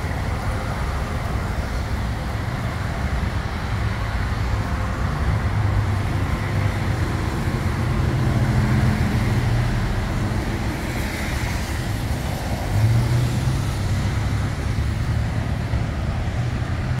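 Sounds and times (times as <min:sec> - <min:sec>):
traffic on wet road: 0:00.0 - 0:17.0.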